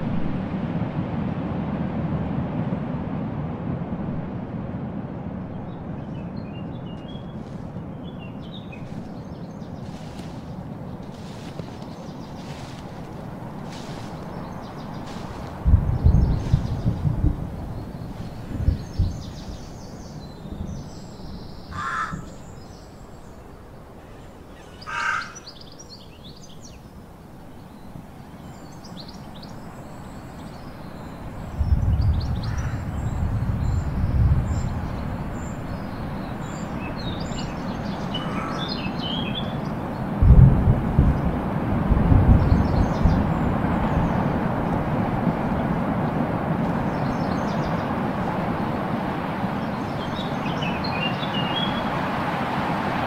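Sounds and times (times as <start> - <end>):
uneven low rumble: 0.0 - 23.4, 30.0 - 38.6, 39.5 - 51.2
birds calling: 5.6 - 40.2, 42.4 - 53.0.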